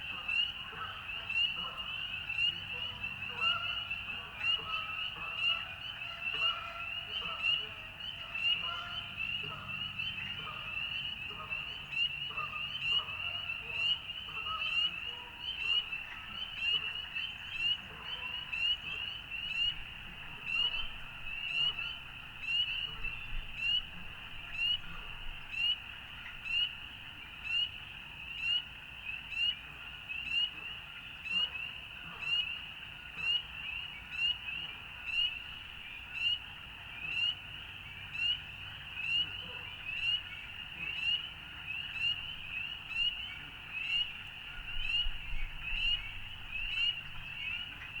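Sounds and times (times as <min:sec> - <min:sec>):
frogs calling: 0:00.0 - 0:48.0.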